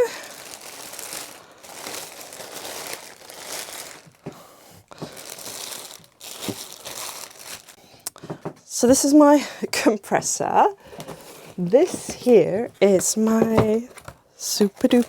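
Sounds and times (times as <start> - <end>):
packaging crinkling and rustling: 0.0 - 9.1, 10.8 - 15.0.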